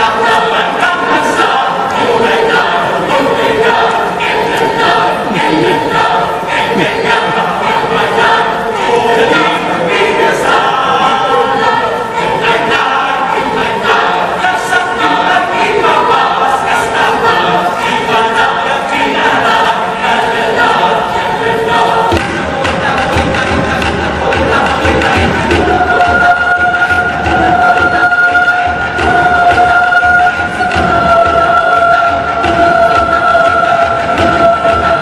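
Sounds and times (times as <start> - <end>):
mixed choir singing: 0.0 - 35.0.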